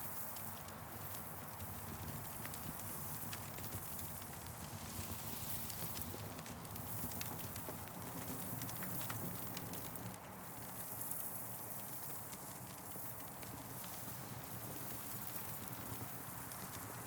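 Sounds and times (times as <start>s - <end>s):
wood campfire crackling: 0.4s - 17.0s.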